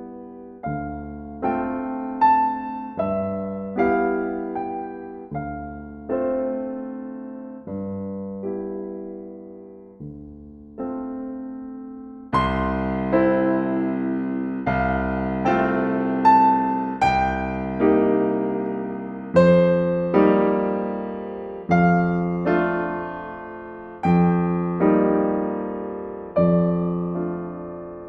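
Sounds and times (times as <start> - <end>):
slow solo piano chords: 0.0 - 28.0.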